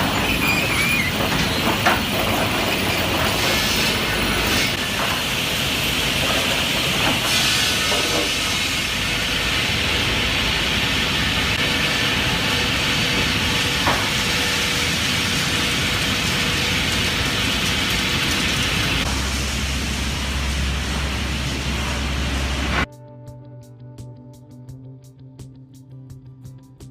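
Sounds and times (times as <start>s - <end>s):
sawmill machinery running: 0.0s - 22.9s.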